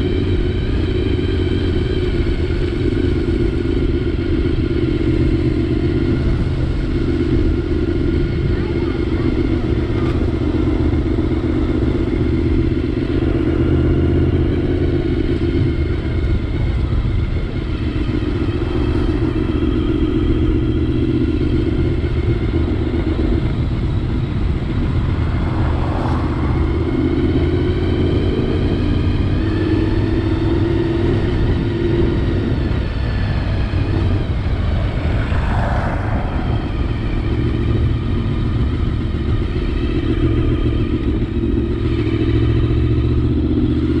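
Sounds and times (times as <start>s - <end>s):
motorcycle engine running: 0.0s - 44.0s
wind rumble: 0.0s - 44.0s.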